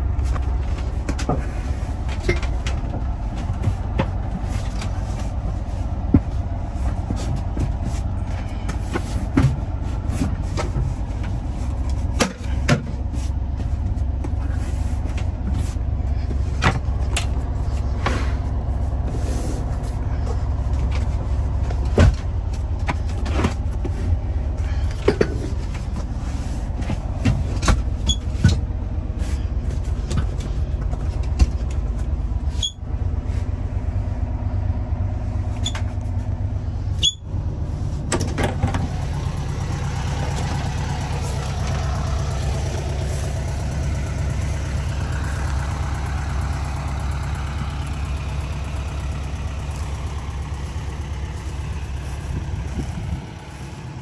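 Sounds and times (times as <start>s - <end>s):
engine idling low rumble: 0.0s - 54.0s.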